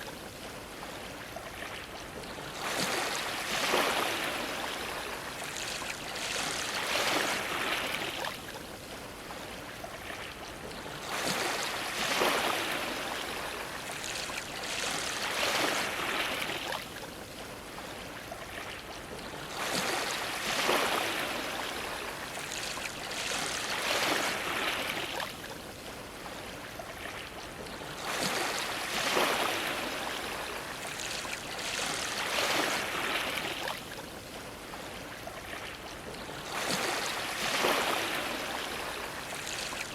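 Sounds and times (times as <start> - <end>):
sea waves washing against a dock: 0.0 - 39.9.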